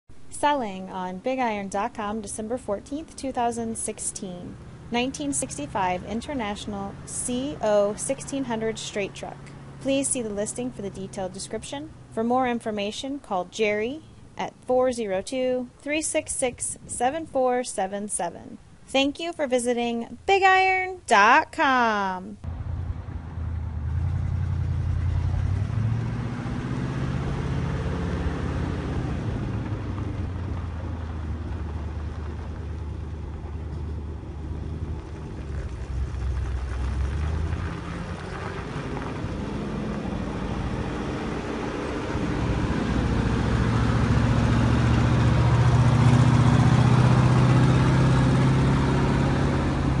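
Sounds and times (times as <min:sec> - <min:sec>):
truck engine driving past: 0:00.1 - 0:12.6, 0:22.4 - 0:50.0.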